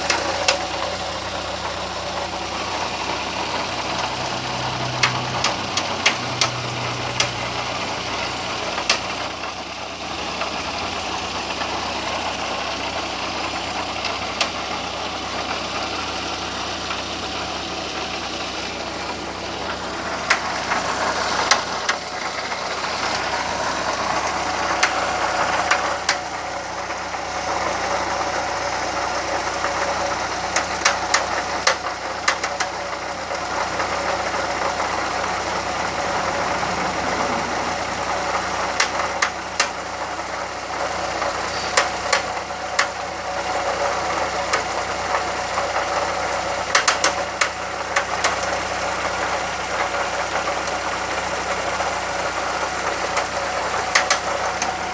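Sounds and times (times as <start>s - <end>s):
sharp engine clicks: 0.0s - 9.5s, 14.0s - 14.8s, 19.6s - 51.6s, 52.3s - 54.9s
car engine running: 0.0s - 54.9s.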